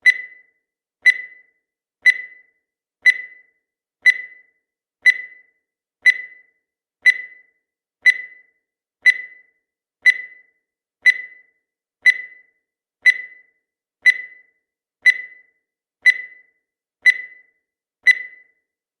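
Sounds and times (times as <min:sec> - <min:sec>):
timer ticking with high ring: 0:00.0 - 0:18.7.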